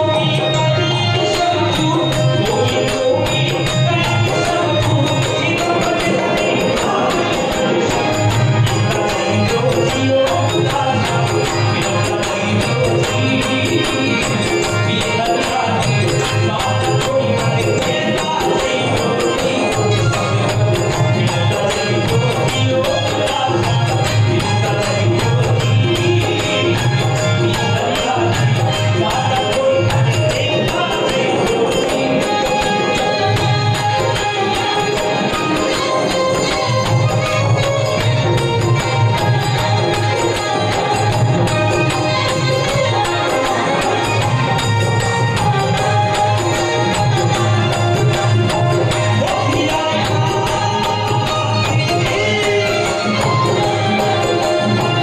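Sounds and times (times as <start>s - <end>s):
instrumental accompaniment with beat: 0.0s - 55.0s
man singing devotional song: 0.0s - 55.0s.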